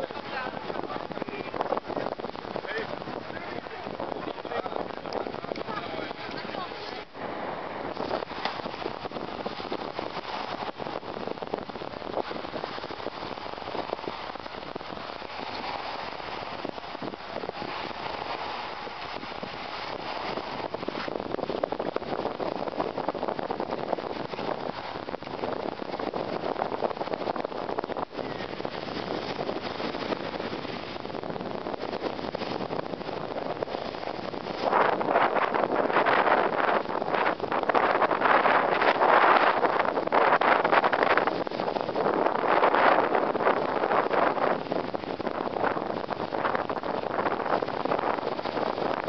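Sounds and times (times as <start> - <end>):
choppy surf: 0.0 - 49.0
strong wind on microphone: 0.0 - 49.0.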